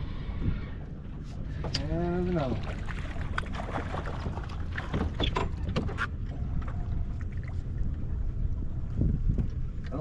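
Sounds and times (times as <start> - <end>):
boat engine rumble: 0.0 - 10.0.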